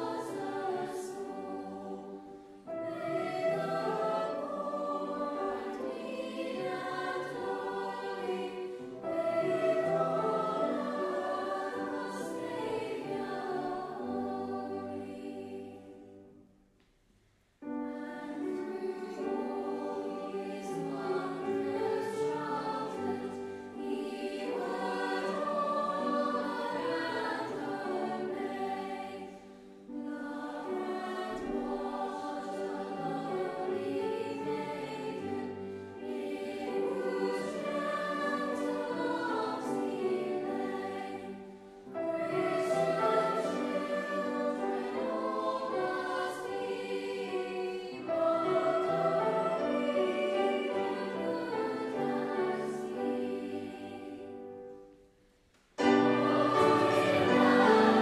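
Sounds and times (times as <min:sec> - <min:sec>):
children's choir singing a carol: 0:00.0 - 0:16.4, 0:17.6 - 0:55.0, 0:55.8 - 0:58.0.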